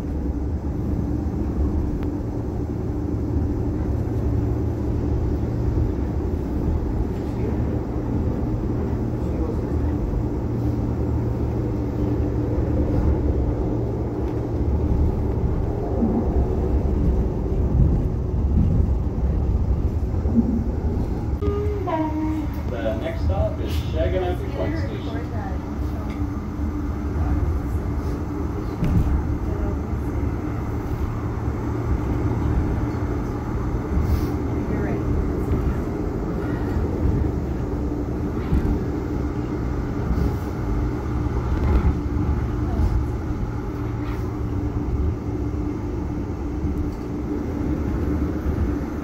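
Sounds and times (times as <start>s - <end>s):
train car rumble on track: 0.0s - 49.0s.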